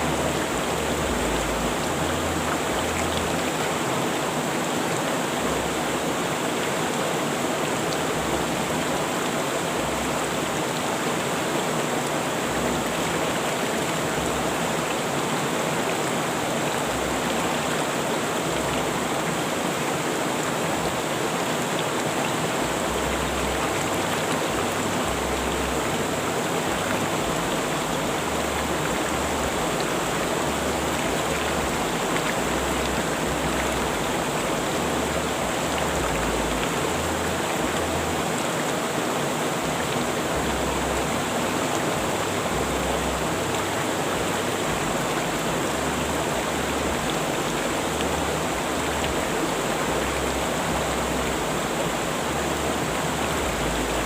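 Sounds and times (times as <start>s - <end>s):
rushing river water: 0.0s - 54.0s.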